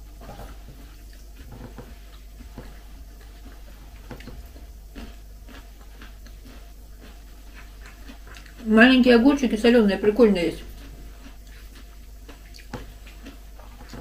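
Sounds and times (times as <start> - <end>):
steady low hum: 0.0 - 14.0
chewing: 0.1 - 9.4, 10.0 - 14.0.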